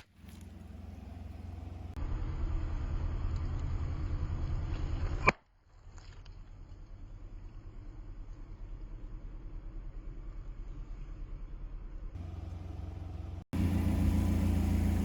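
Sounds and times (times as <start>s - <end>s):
car engine rumbling: 0.0s - 5.0s, 7.8s - 15.0s.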